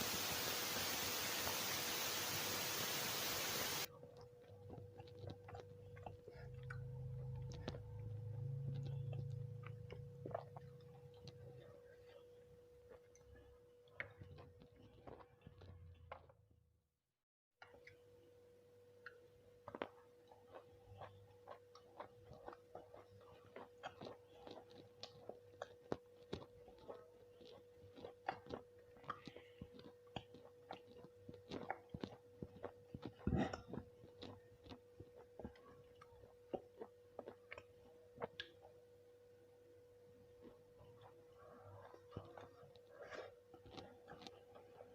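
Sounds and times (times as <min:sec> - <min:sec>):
faint steady hum: 0:00.0 - 0:15.5, 0:17.6 - 0:44.9
person chewing: 0:03.8 - 0:12.2, 0:12.8 - 0:16.4, 0:19.0 - 0:38.8, 0:40.2 - 0:44.9.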